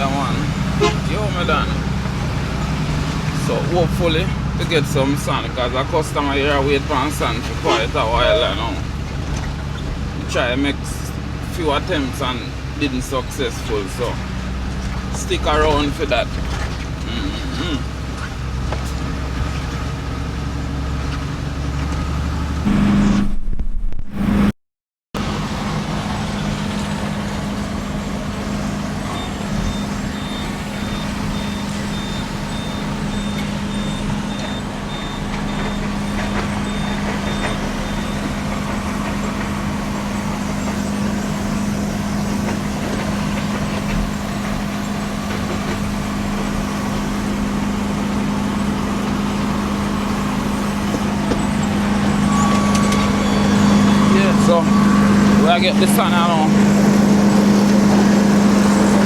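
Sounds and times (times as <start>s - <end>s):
truck diesel engine running: 0.0s - 24.5s, 25.2s - 59.0s.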